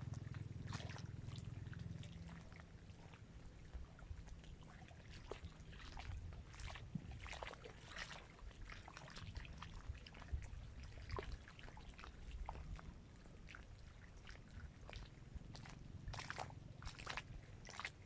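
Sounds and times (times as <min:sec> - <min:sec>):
small waves lapping on shore: 0:00.0 - 0:18.0.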